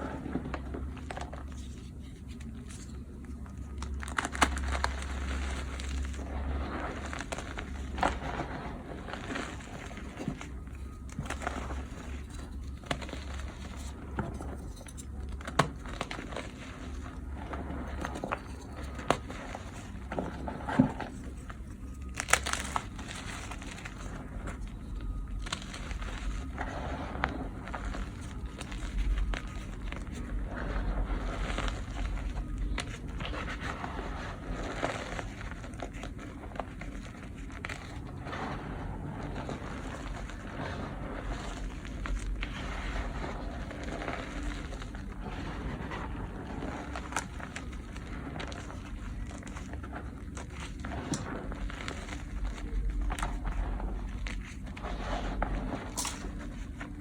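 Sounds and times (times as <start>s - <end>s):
chalk blocks crunching: 0.0s - 57.0s.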